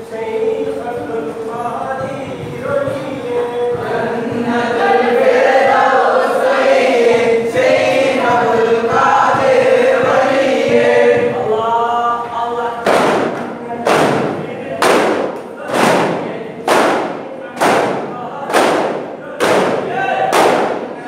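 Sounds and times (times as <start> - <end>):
men and boys chanting in unison: 0.0 - 21.0.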